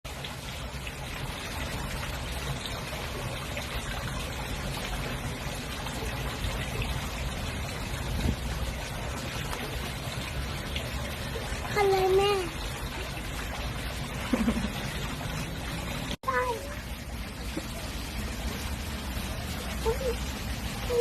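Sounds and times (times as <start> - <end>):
running water trickling: 0.1 - 21.0.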